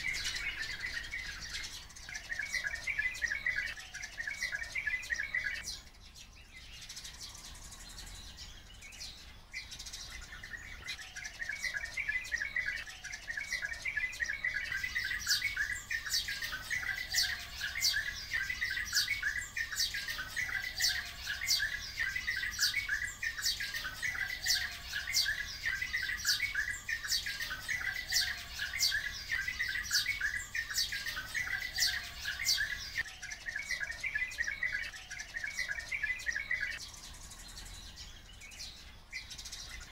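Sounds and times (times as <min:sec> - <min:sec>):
birds chattering: 0:00.0 - 0:39.9
sharp falling bird calls: 0:00.0 - 0:39.9.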